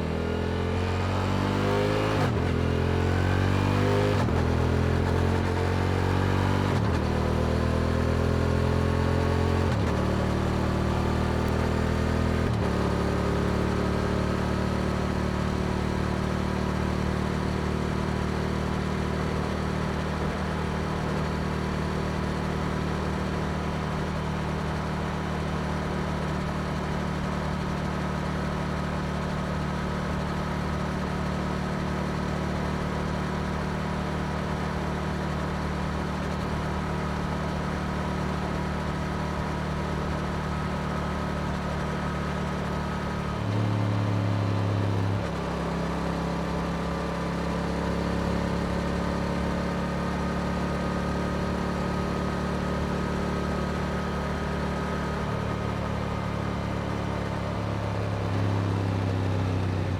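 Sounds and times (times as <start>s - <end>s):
motorcycle engine running: 2.1s - 59.9s.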